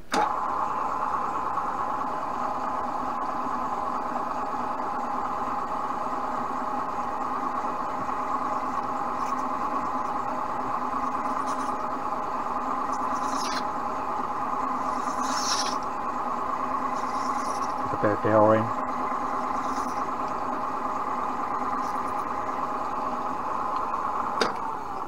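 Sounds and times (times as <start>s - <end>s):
drill motor running: 0.2s - 25.0s.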